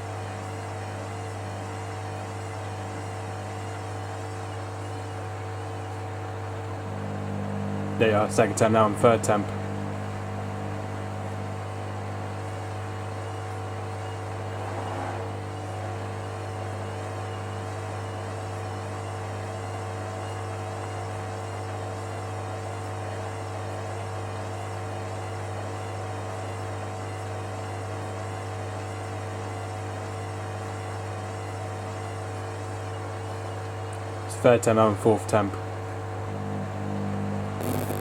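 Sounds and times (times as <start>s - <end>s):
washing machine drum motor humming: 0.0s - 34.4s, 35.4s - 38.0s.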